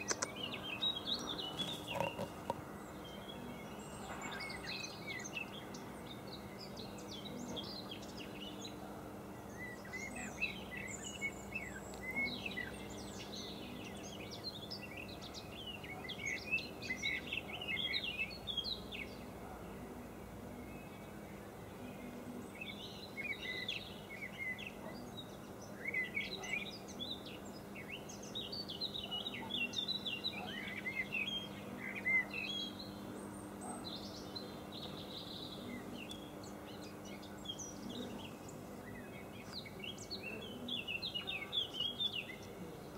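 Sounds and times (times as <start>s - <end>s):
faint low hum: 0.0s - 42.9s
songbirds singing and chirping: 0.0s - 42.9s.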